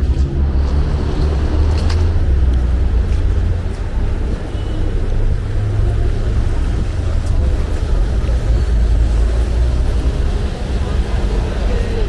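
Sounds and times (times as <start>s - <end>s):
loud low street rumble: 0.0s - 12.0s.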